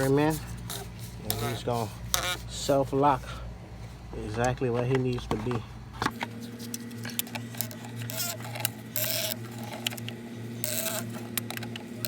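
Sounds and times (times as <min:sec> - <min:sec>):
oil filter housing scraping: 0:00.0 - 0:11.4
steady low hum: 0:00.0 - 0:12.0.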